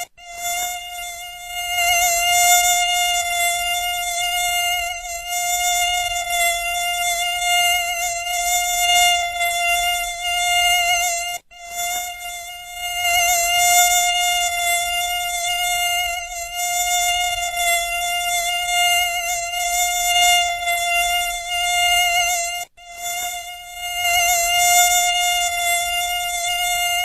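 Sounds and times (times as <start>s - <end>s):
mosquito wing buzz: 0.0s - 27.0s.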